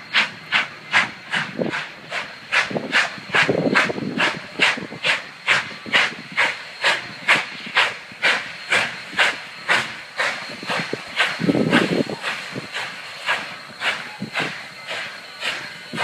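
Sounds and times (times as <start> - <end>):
steam locomotive chuffing: 0.0 - 16.0.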